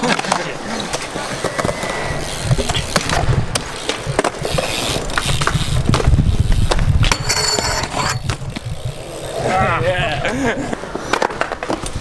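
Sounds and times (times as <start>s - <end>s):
bike tyres rolling on concrete: 0.0s - 12.0s.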